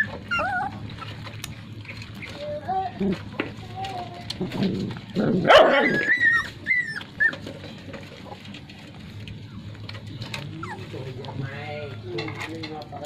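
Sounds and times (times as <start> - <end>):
puppies whimpering: 0.0 - 3.3, 3.9 - 12.0.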